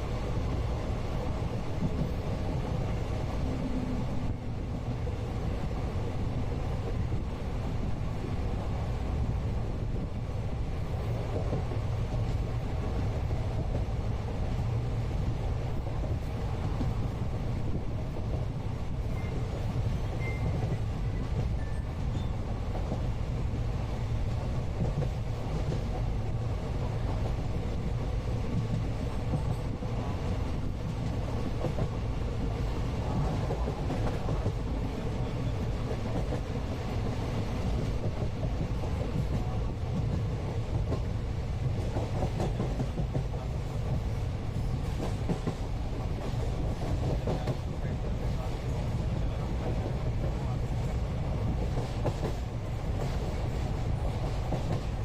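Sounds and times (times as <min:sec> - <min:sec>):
train rumble from inside coach: 0:00.0 - 0:55.0.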